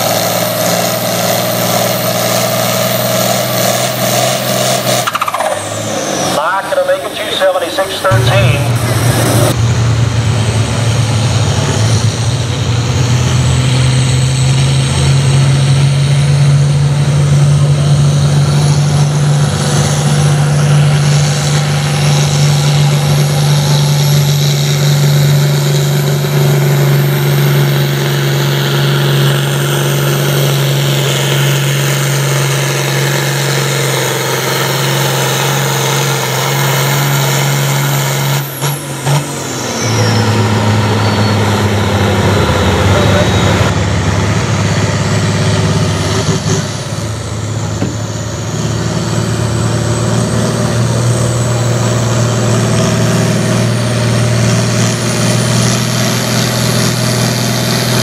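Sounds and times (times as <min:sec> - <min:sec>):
high engine whine: 0:00.0 - 0:58.0
tractor diesel engine under load: 0:00.0 - 0:58.0.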